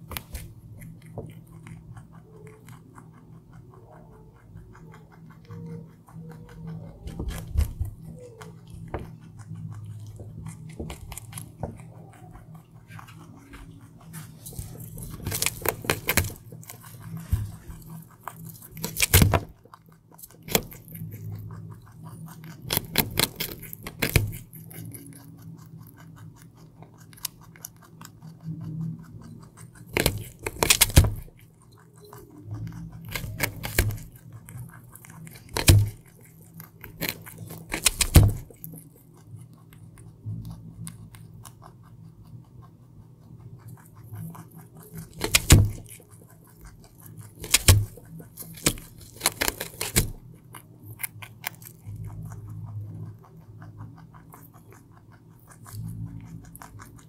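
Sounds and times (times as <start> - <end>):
faint low hum: 0.0 - 57.0
rabbit crunching carrot: 0.0 - 57.0.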